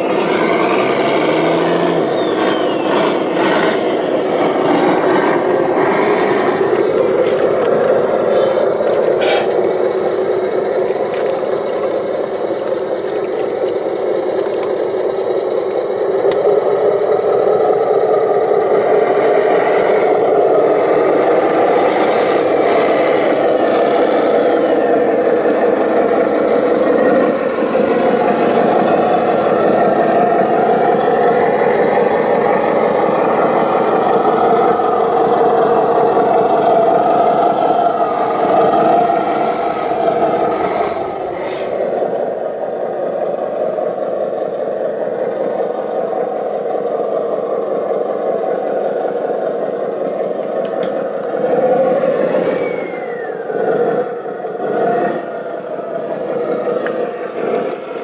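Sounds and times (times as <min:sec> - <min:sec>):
electric motors and gearboxes whirring: 0:00.0 - 0:58.0.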